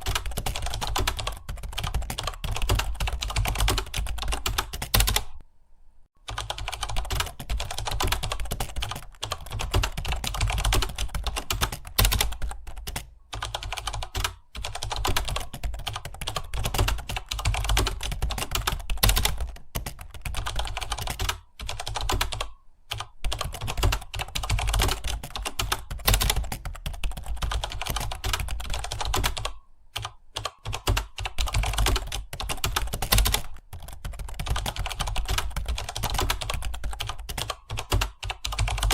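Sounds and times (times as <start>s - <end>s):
typing on computer keyboard: 0.0s - 5.4s, 6.2s - 38.9s.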